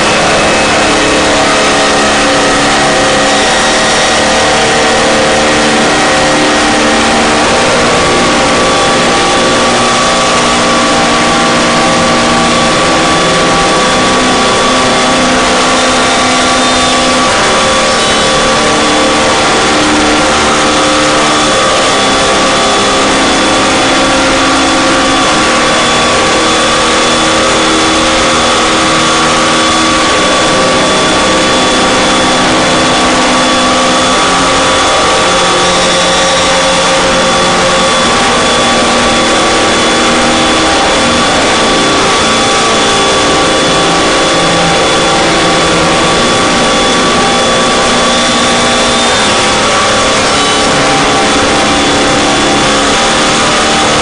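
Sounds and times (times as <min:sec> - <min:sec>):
loud static noise: 0:00.0 - 0:54.0
low droning notes: 0:00.0 - 0:54.0.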